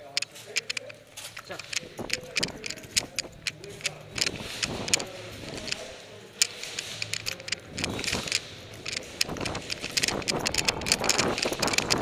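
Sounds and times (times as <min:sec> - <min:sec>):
gear rattling: 0:00.0 - 0:12.0
sharp clicks: 0:00.0 - 0:12.0.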